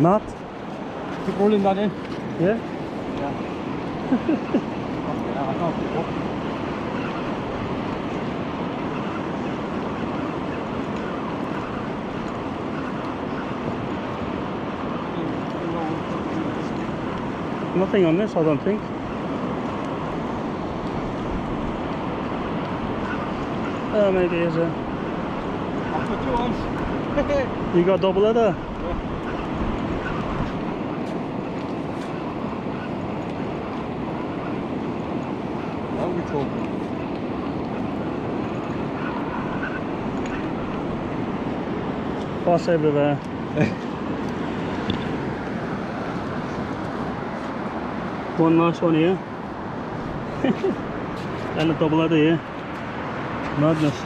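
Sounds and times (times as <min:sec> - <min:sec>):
sea surf: 0:00.0 - 0:54.0
wind buffeting microphone: 0:00.0 - 0:54.0.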